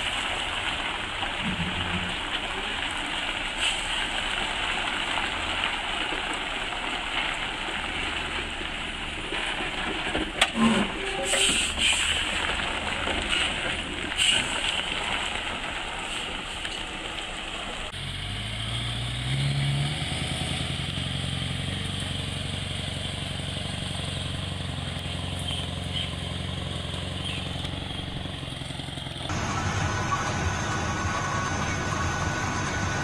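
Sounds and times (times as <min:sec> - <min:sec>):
truck diesel engine rumbling: 0:00.0 - 0:33.0.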